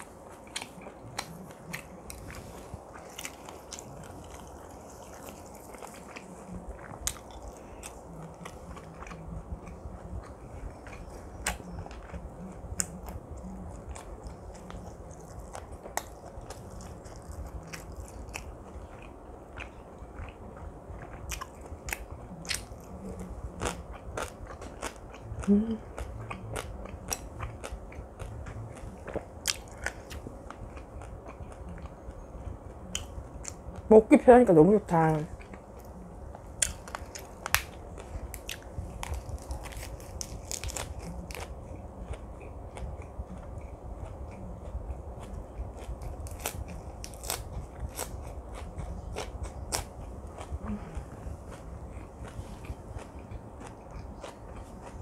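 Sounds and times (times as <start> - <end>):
person chewing food: 0.0 - 33.9, 35.3 - 55.0.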